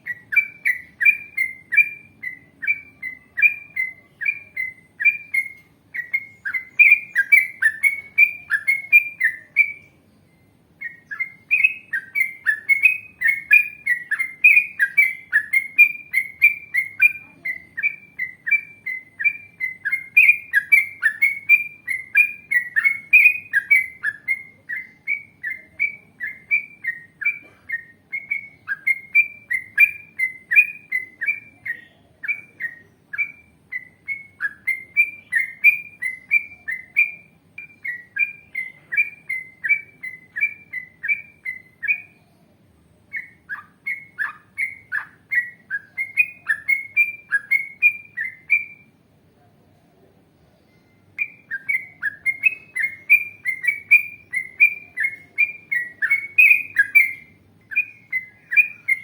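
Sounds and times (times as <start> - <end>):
faint high twittering: 0.0 - 59.0.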